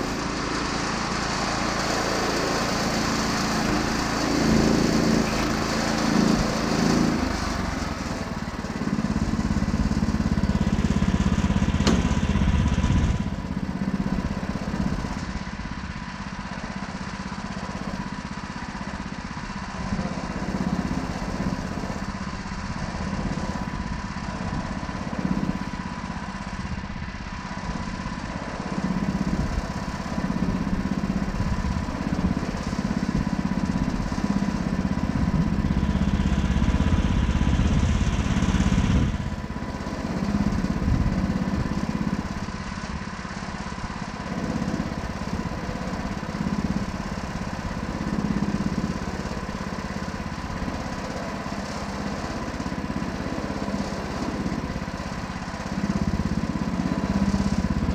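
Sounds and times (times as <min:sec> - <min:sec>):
sawmill engine running: 0:00.0 - 0:57.9.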